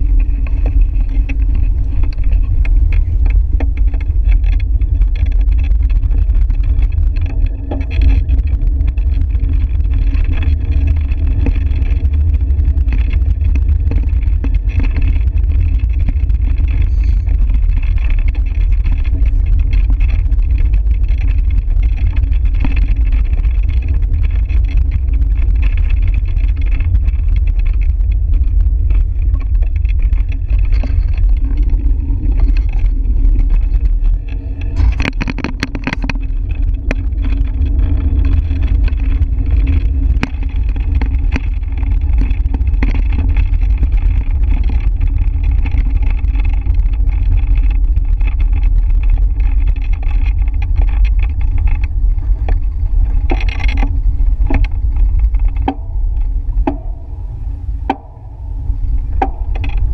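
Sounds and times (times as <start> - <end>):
sharp clicks and rattles: 0.0 - 59.9
wind noise on microphone: 0.0 - 59.9.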